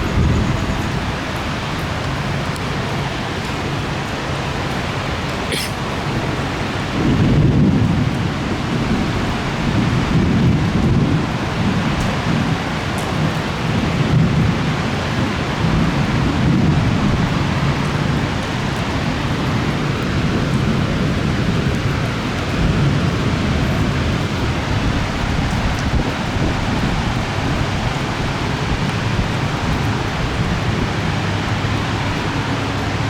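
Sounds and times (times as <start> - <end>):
thunder rumbling: 0.0 - 5.2, 5.8 - 33.0
rain falling: 0.0 - 33.0.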